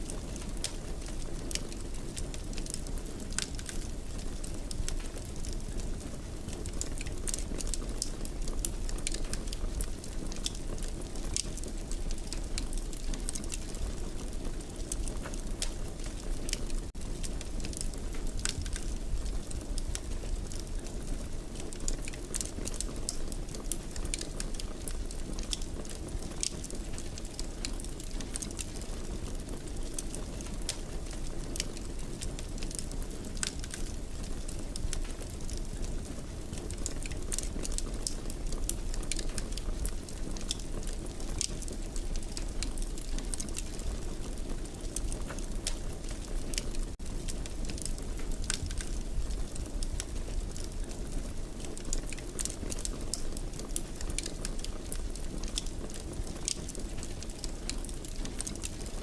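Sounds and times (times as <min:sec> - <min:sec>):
fire crackles and pops: 0:00.0 - 0:59.0.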